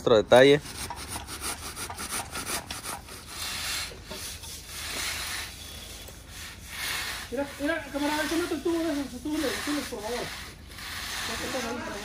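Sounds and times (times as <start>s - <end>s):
groover scraping wet concrete: 0.4s - 12.0s.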